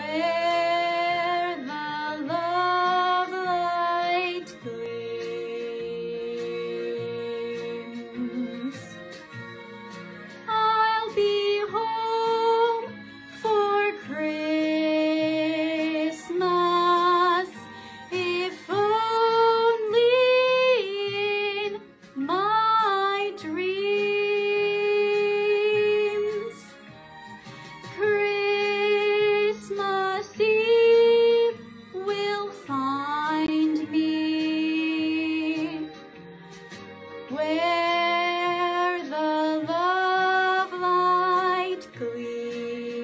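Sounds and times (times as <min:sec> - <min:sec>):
girl singing: 0:00.0 - 0:09.0, 0:10.5 - 0:26.7, 0:27.9 - 0:35.9, 0:37.3 - 0:43.0
instrumental accompaniment: 0:00.0 - 0:43.0.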